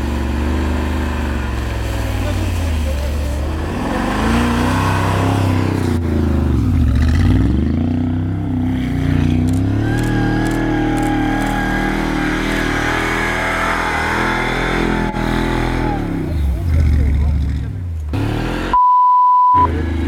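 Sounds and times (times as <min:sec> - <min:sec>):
car engine revving: 0:00.0 - 0:18.8, 0:19.5 - 0:20.0.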